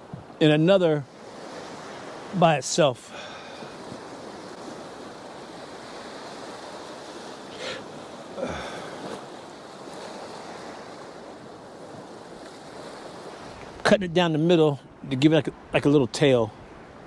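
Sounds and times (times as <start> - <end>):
ocean waves washing onto beach: 0.0 - 17.0
wind: 0.0 - 17.0.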